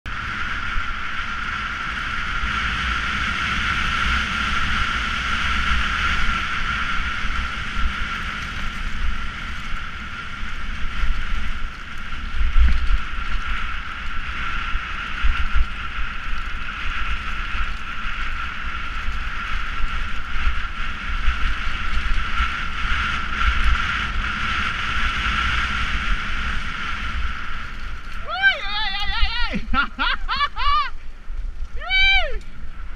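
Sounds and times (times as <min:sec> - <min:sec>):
bike tyres rolling on dirt: 0:00.1 - 0:32.9.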